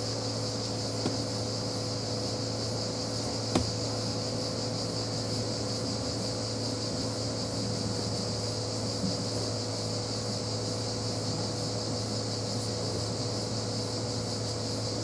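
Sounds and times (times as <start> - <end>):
insects chirring: 0.0 - 15.0
low mechanical hum: 0.0 - 15.0.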